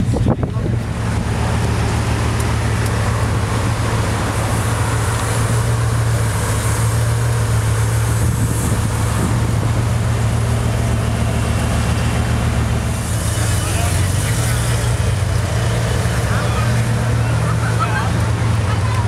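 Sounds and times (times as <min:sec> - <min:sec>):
car engine running low revs: 0:00.0 - 0:19.0.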